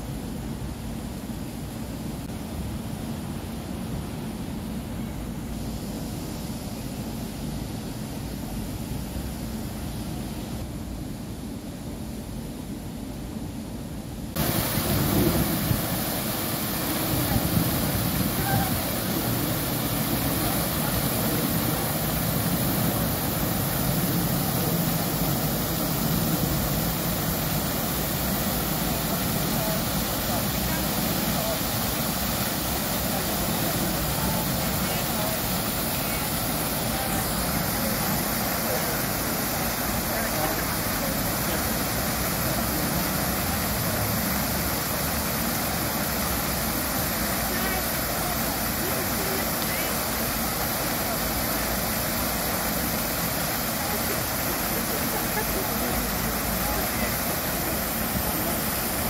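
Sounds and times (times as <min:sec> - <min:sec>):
fountain water splashing: 0:00.0 - 0:13.6, 0:14.2 - 0:59.0.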